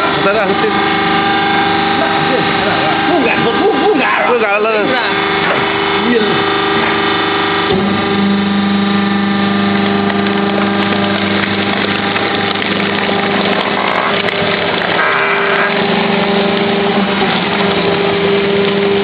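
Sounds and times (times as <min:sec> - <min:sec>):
electric motor and hydraulic pump humming: 0:00.0 - 0:19.0.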